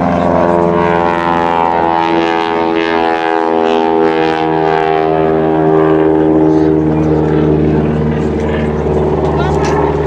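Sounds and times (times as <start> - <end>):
propeller plane flying past: 0.0 - 10.0.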